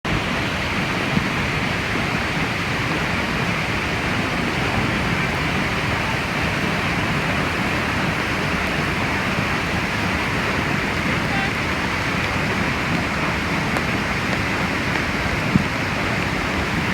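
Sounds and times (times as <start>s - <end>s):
waterfall rushing: 0.1s - 16.9s.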